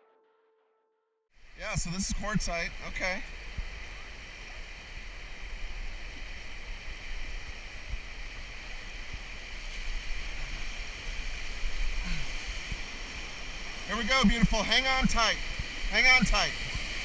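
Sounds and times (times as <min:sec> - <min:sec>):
wind rumble on microphone: 0:01.4 - 0:17.0
river rushing: 0:01.5 - 0:17.0.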